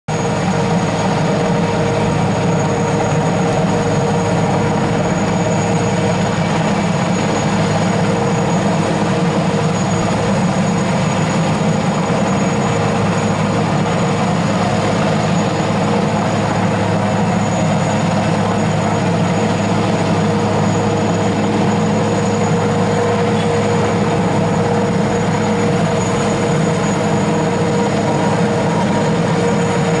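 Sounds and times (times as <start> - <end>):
helicopter rotor and engines: 0.1 - 30.0.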